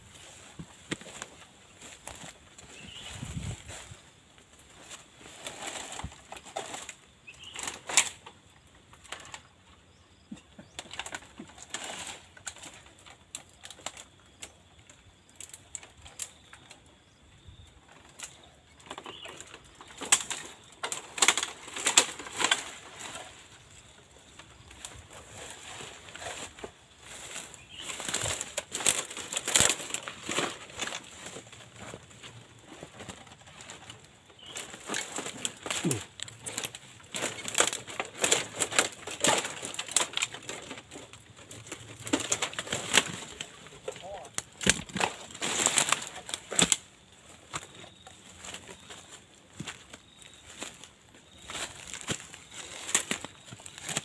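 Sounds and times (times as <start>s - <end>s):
footsteps through dry leaves: 0.0s - 8.2s, 18.9s - 54.0s.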